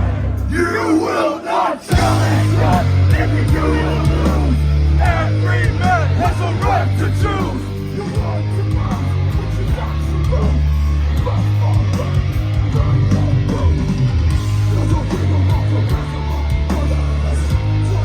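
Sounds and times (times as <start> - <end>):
heavy band playing live: 0.0 - 18.0.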